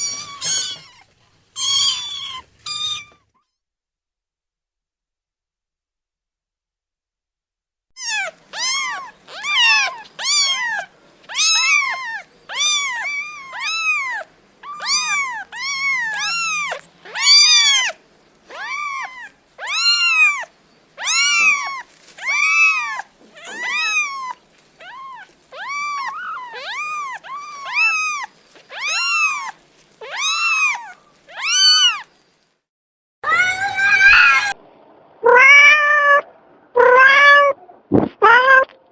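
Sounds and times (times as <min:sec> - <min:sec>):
cat meowing: 0:00.0 - 0:03.5, 0:08.0 - 0:32.1, 0:33.2 - 0:34.6, 0:35.2 - 0:37.6, 0:38.2 - 0:38.8.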